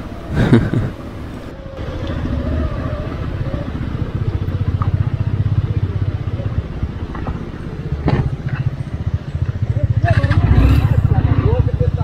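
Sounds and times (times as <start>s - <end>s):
motorcycle engine throbbing: 1.6s - 12.0s.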